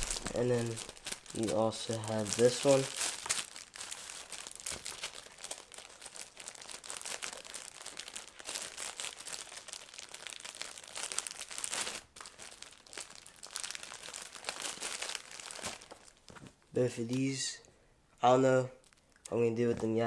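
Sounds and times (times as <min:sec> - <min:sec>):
plastic packets crinkling: 0:00.0 - 0:16.6, 0:18.8 - 0:20.0.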